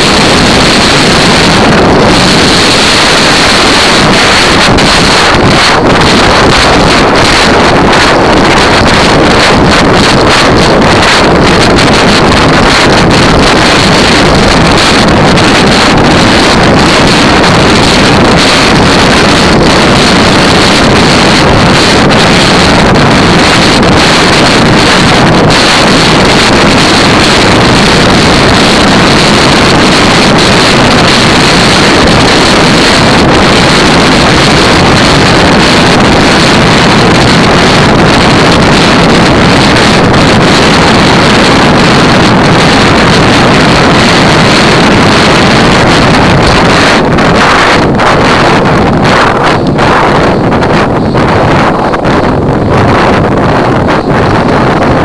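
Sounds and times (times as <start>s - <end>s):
wind roaring on microphone: 0.0s - 55.0s.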